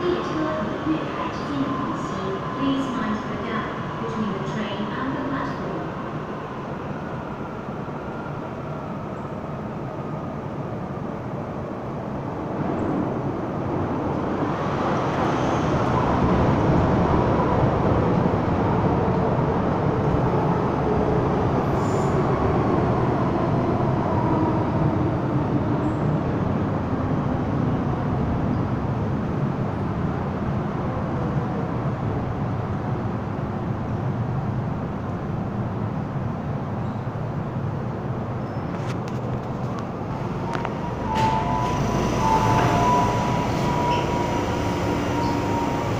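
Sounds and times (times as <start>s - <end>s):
train rumble: 0.0s - 45.9s.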